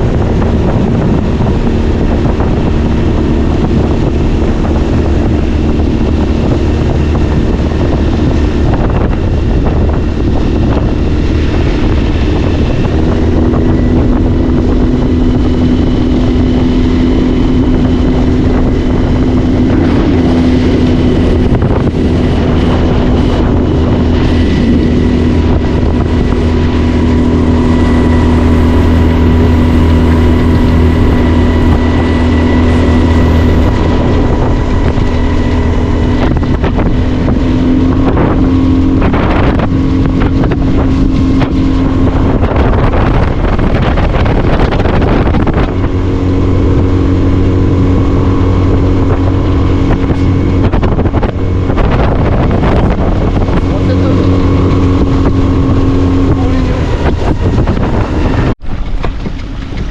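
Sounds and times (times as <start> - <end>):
outboard motor running: 0.0 - 59.9
wind on microphone: 0.0 - 59.9.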